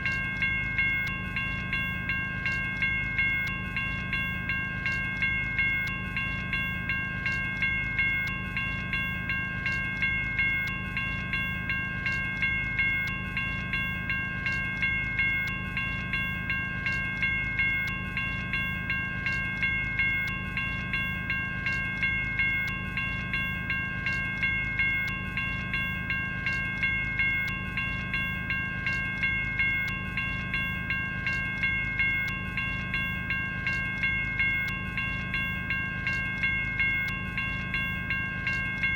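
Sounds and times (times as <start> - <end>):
electronic crossing bell ringing: 0.0 - 38.9.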